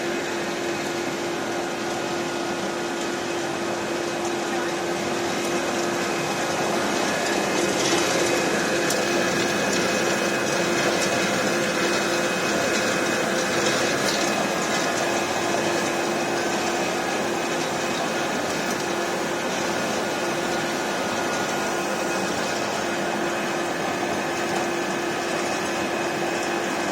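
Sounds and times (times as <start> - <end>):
pellet mill running: 0.0 - 26.9.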